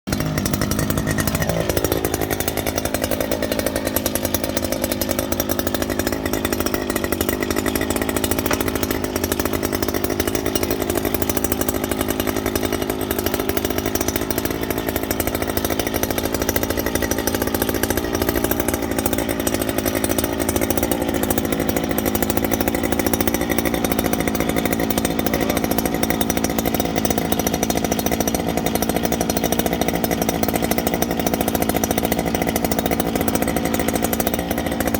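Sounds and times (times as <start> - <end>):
earth auger engine running: 0.1 - 34.9.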